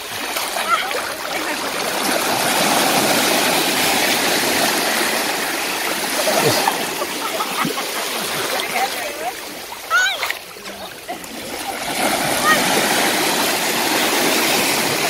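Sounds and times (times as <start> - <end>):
sea waves washing over pebbles: 0.0 - 9.6, 11.2 - 15.0.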